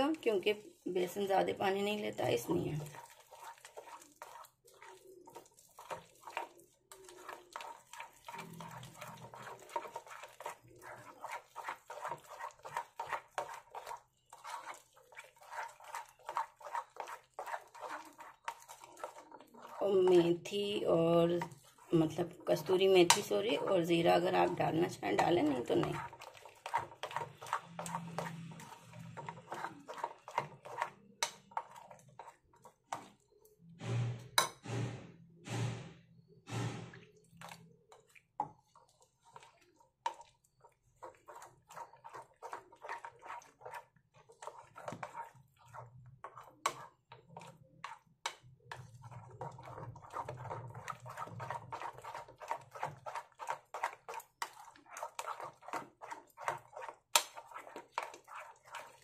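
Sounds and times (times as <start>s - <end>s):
spoon beating batter in dish: 0.0s - 59.0s.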